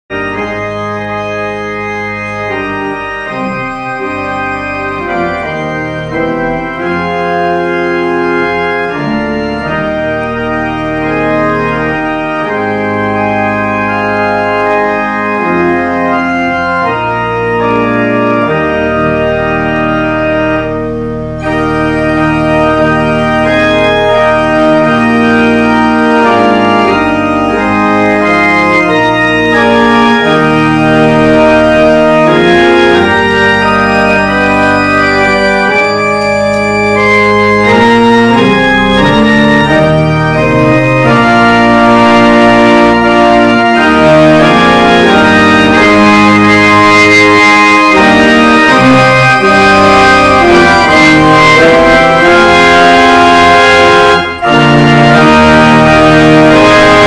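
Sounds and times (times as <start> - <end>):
pipe organ chords: 0.1 - 57.0.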